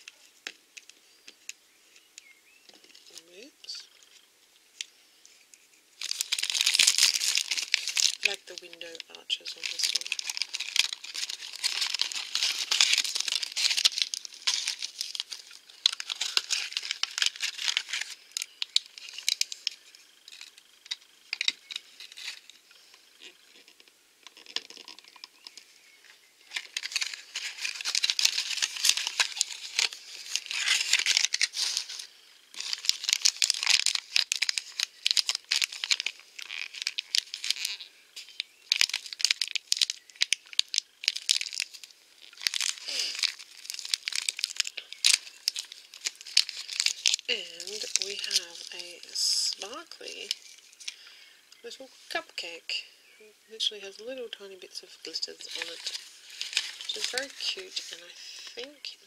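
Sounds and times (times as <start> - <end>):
plastic packaging crinkling: 0.0 - 52.8, 53.6 - 59.0
plastic foil wrapper pulled open: 6.0 - 25.6, 26.4 - 52.5, 55.1 - 58.9.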